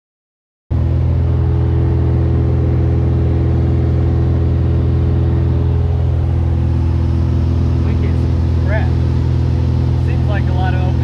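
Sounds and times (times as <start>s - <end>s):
airplane engine and propeller drone: 0.7s - 11.0s.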